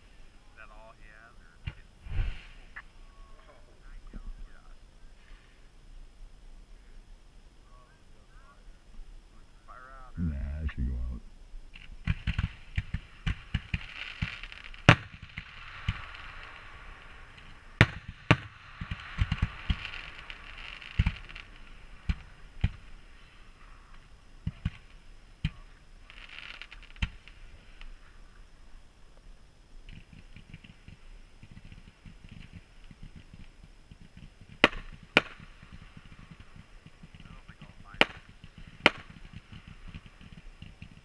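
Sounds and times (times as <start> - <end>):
fireworks hiss: 0.0 - 41.0
fireworks bangs: 0.5 - 4.7, 9.8 - 28.1, 29.8 - 41.0.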